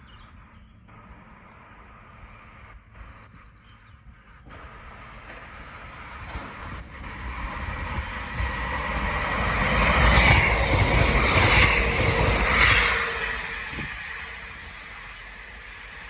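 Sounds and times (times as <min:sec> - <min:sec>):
train passing with rail noise: 0:00.0 - 0:16.0.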